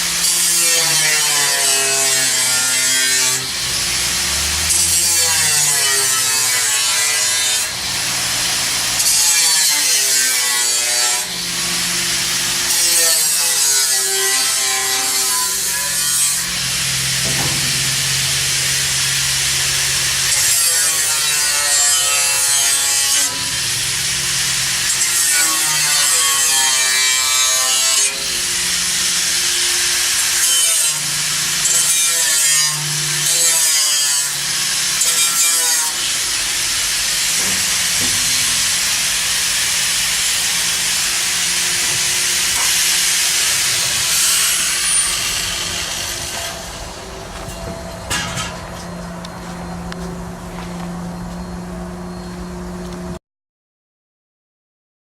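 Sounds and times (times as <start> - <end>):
saw cutting in strokes: 0.0 - 46.9.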